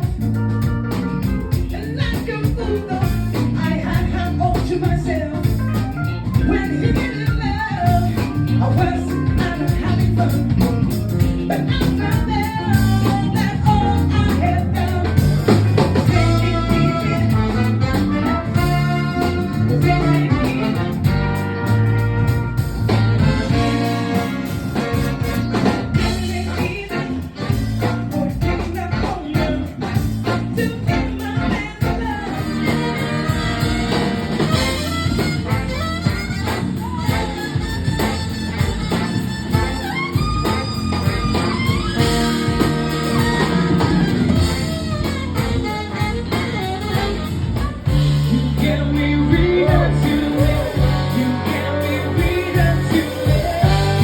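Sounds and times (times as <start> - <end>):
soul band playing: 0.0 - 54.0
person singing: 1.5 - 21.8, 25.5 - 54.0.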